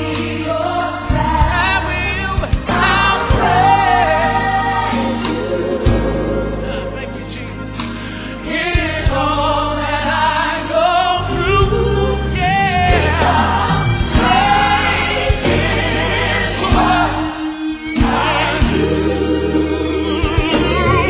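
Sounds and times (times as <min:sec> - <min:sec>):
choir singing: 0:00.0 - 0:07.8, 0:08.4 - 0:21.0
bass notes: 0:00.0 - 0:21.0.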